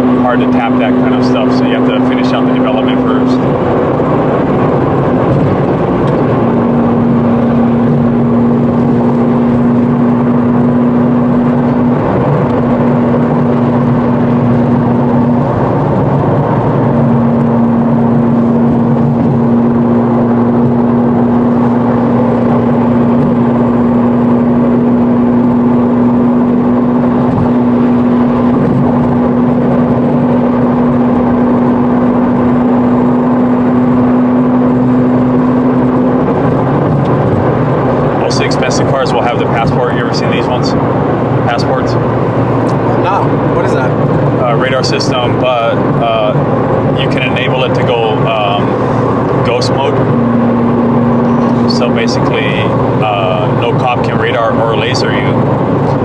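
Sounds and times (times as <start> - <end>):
car engine drone in cabin: 0.0 - 56.0.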